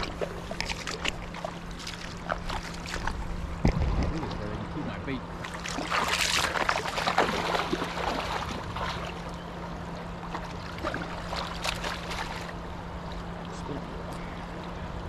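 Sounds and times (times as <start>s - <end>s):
river water splashing: 0.0s - 15.0s
steady low hum: 0.0s - 15.0s.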